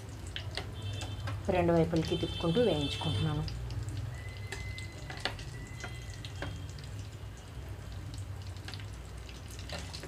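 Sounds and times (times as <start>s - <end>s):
food deep-frying in hot oil: 0.0s - 10.0s.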